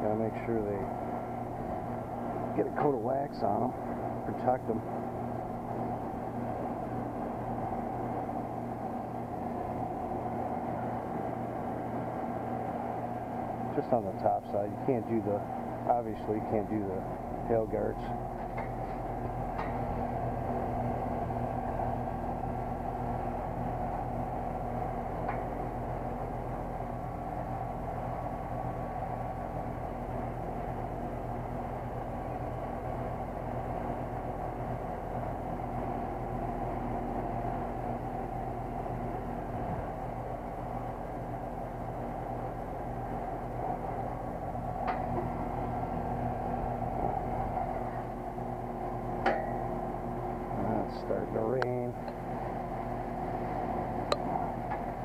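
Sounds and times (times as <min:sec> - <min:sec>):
heat pump unit humming: 0:00.0 - 0:55.0.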